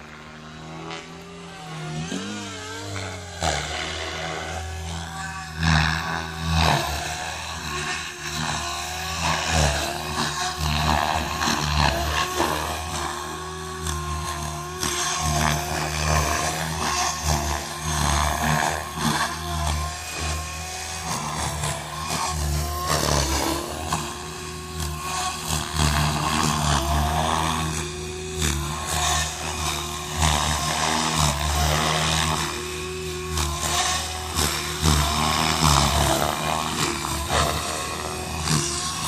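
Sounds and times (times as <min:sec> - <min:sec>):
helicopter rotor blades chopping: 0:00.0 - 0:39.0
motor and gear whine: 0:00.0 - 0:39.0.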